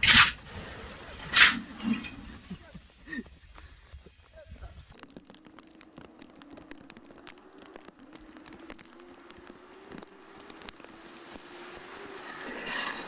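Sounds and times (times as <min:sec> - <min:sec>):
scattered clicks and ticks: 0:00.0 - 0:13.0.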